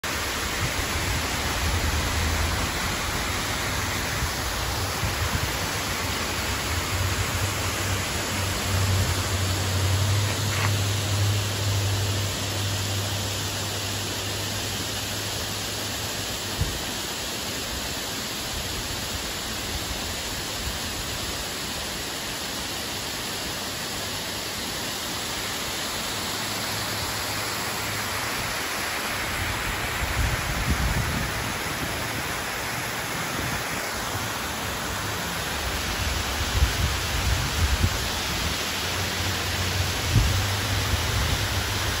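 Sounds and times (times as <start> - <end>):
waterfall and creek rushing: 0.0 - 42.0.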